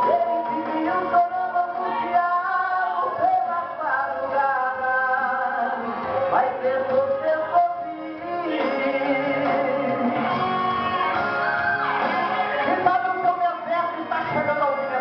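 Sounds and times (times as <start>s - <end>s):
man singing through a pa: 0.0s - 10.5s, 12.5s - 15.0s
instrumental backing: 0.0s - 15.0s.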